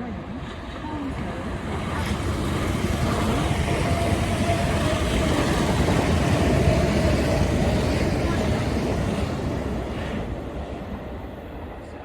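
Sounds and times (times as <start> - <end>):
passenger train rumbling past: 0.0 - 12.0.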